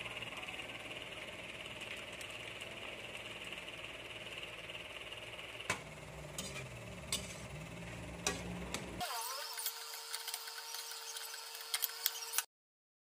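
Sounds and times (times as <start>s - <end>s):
vegetables sizzling in wok: 0.9s - 12.5s.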